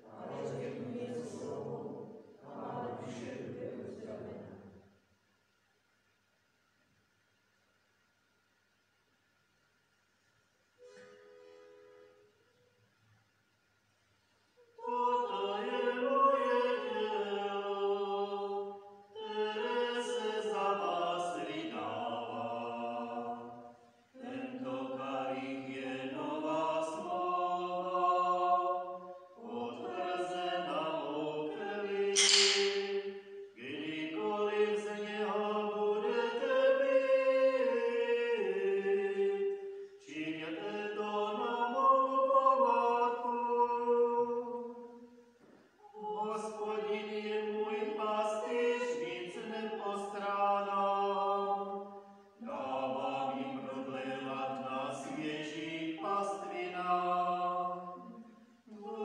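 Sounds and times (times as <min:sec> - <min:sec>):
choir singing a hymn: 0:00.0 - 0:04.8, 0:14.6 - 0:45.1, 0:45.8 - 0:59.0.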